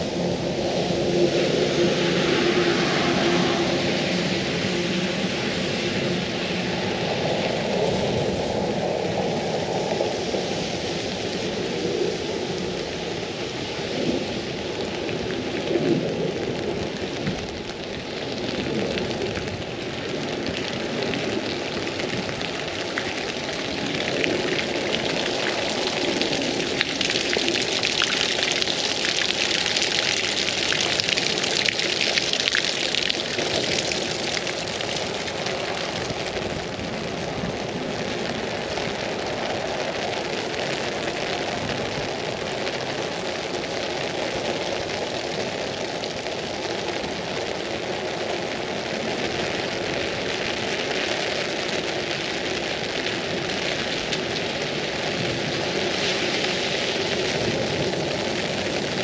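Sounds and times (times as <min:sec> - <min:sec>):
rain pattering on an umbrella: 0:00.0 - 0:59.0.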